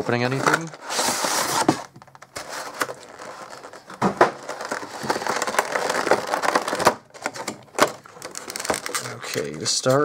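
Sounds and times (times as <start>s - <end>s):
plastic tray crinkling: 0.0s - 10.0s.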